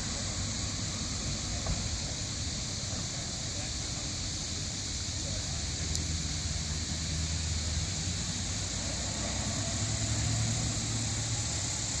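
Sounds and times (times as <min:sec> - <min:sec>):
car engines humming: 0:00.0 - 0:12.0
constant high hiss: 0:00.0 - 0:12.0.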